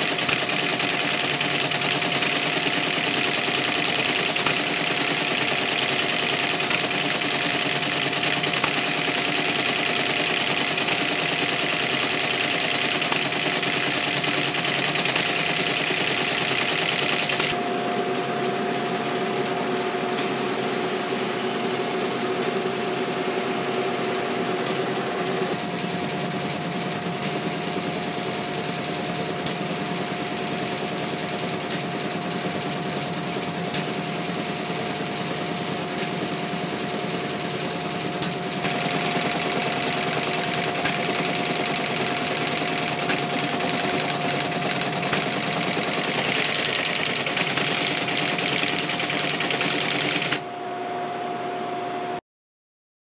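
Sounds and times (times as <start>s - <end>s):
teletype printing chatter: 0.0s - 17.7s, 18.3s - 50.4s
teletype motor hum: 0.0s - 50.5s.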